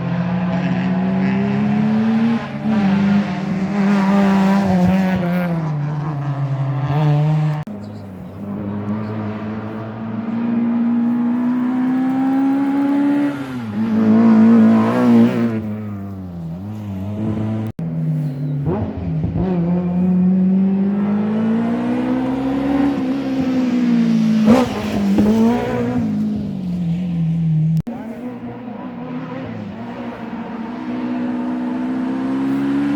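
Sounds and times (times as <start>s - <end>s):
rally car engines at full throttle: 0.0s - 32.9s.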